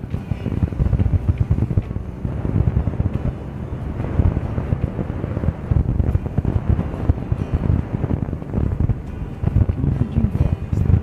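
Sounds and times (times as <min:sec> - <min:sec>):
vehicle driving on dirt road: 0:00.0 - 0:11.0
wind buffeting microphone: 0:00.0 - 0:11.0.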